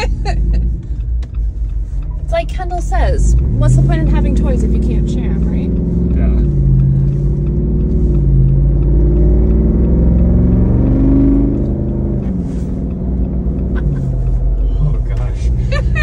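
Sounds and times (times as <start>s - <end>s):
car engine accelerating: 0.0s - 16.0s
road rumble: 0.0s - 16.0s.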